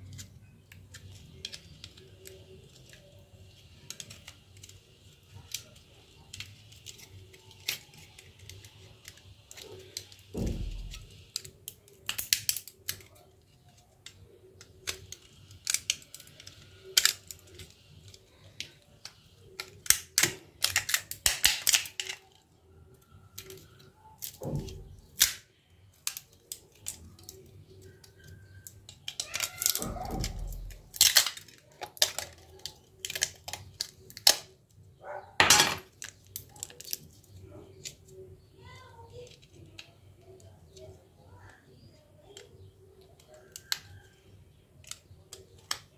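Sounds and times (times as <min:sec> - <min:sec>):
plastic phone parts clicking and snapping: 0:00.1 - 0:22.4, 0:23.4 - 0:34.6, 0:39.2 - 0:45.9.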